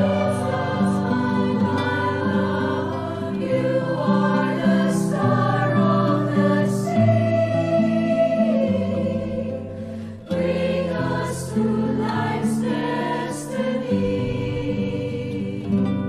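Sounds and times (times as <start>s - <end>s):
choir singing a slow hymn: 0.0s - 16.0s.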